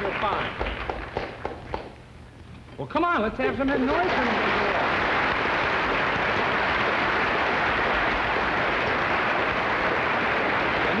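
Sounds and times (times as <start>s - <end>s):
studio audience applauding: 0.0s - 1.5s, 3.6s - 11.0s.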